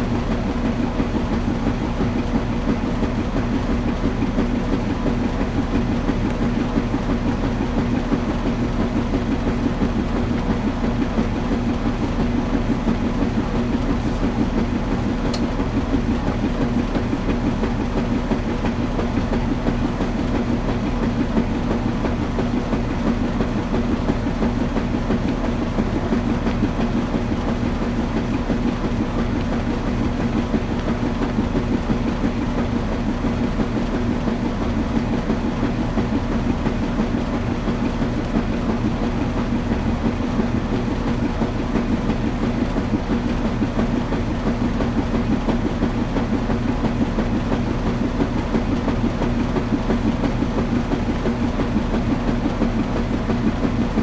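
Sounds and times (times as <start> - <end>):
washing machine churning: 0.0 - 54.0.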